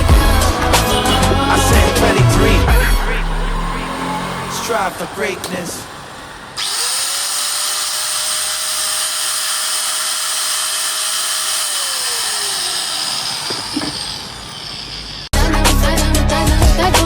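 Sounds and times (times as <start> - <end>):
angle grinder whining: 0.0 - 15.4
grinder disc spinning down: 0.0 - 15.4.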